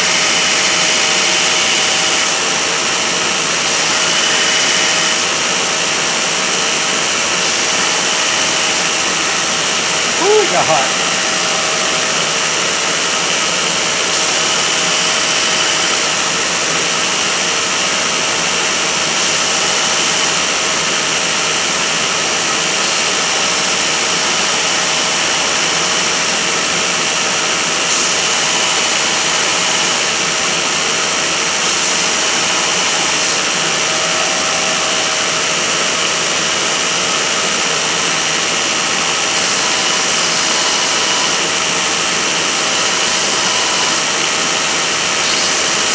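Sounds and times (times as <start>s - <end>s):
grinder grinding metal: 0.0s - 17.3s, 21.6s - 45.9s.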